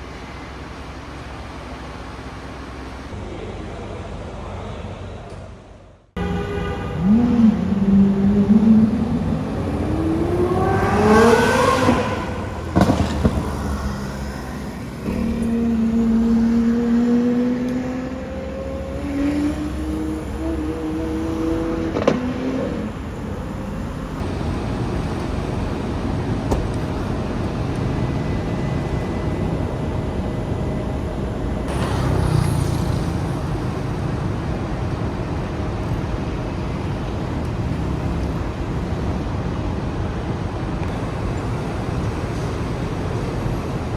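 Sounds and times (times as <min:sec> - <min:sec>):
street traffic noise: 0:00.0 - 0:43.9
car engine accelerating: 0:06.2 - 0:43.9.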